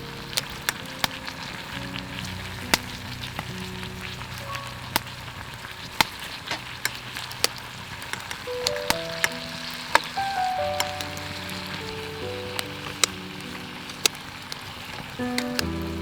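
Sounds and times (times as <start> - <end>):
food sizzling in a pan: 0.0 - 16.0
wood fire popping and crackling: 0.0 - 16.0.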